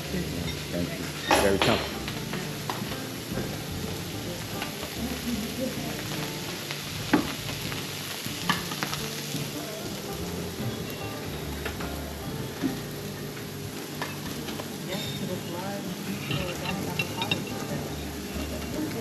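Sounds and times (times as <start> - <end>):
eggs sizzling in pans: 0.0 - 19.0.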